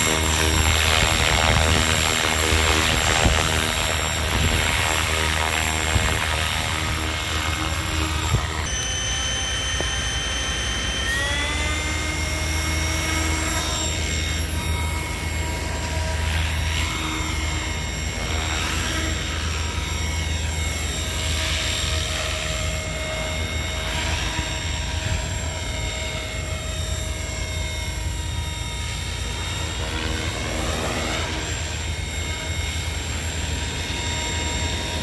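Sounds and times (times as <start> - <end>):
model helicopter motor whine: 0.0 - 35.0
rushing rotor sound: 0.0 - 35.0.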